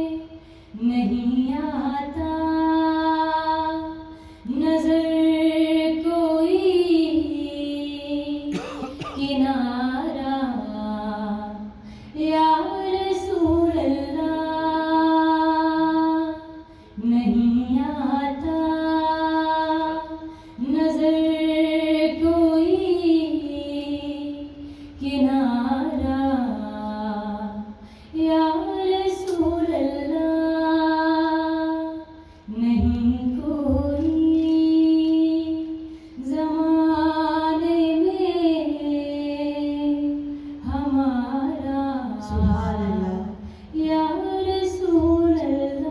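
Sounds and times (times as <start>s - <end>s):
woman singing unaccompanied: 0.0s - 45.9s.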